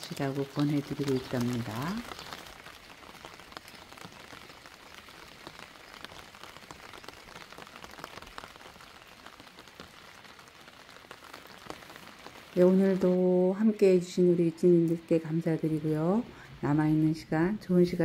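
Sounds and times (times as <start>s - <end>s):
raindrop impacts: 0.0s - 18.0s
steady rain falling: 0.0s - 18.0s.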